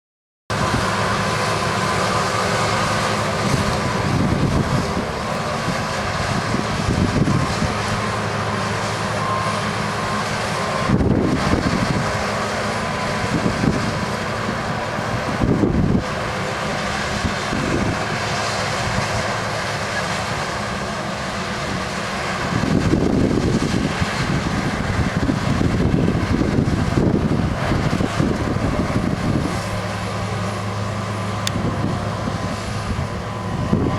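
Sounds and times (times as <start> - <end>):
farm machinery engine running: 0.5 - 33.9
rushing surges: 0.5 - 33.9.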